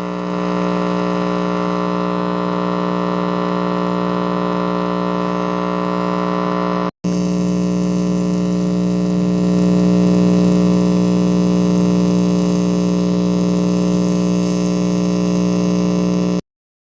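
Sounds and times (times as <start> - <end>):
audio cable buzzing hum: 0.0 - 16.4.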